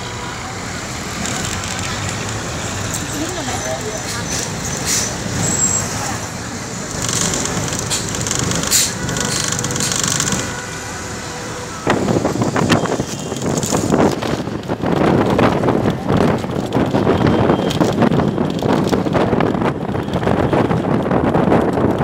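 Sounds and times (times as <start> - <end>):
road and engine noise: 0.0 - 22.0
wind buffeting microphone: 0.0 - 22.0.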